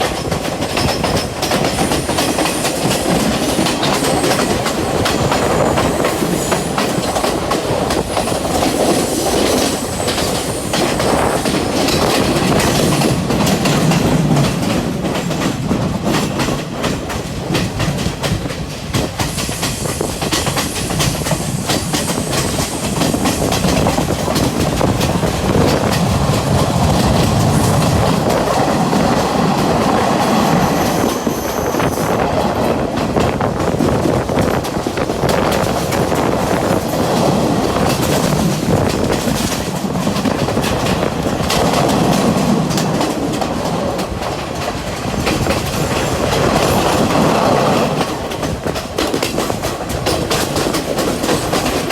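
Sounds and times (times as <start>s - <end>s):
train rumbling along track: 0.0s - 51.9s
wheels clacking over rails: 0.0s - 51.9s.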